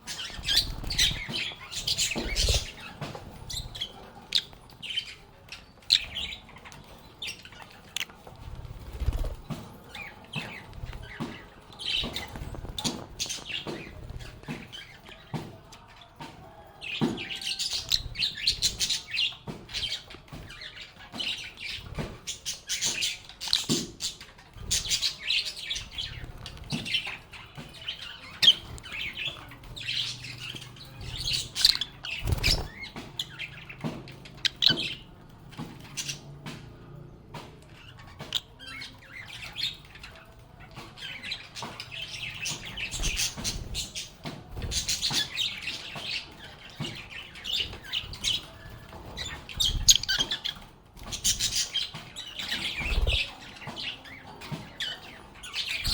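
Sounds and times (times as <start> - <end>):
lovebirds chirping and chattering: 0.0 - 55.9.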